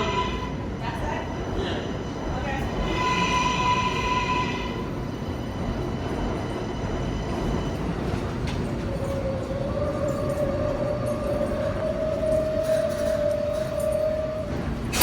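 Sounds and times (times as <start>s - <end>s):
subway train running: 0.0s - 15.0s.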